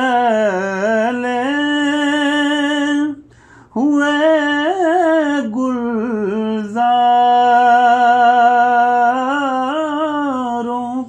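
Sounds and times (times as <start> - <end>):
solo voice singing: 0.0 - 11.0.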